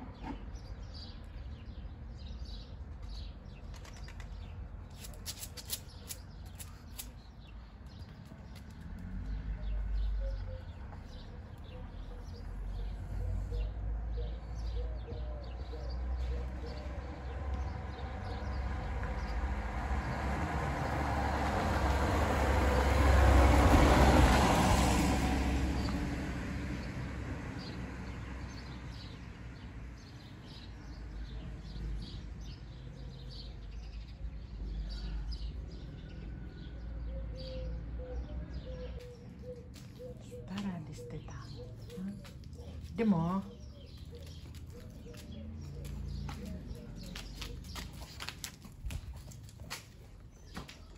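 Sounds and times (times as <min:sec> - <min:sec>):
vehicle passing: 0:07.7 - 0:32.7, 0:33.3 - 0:50.9.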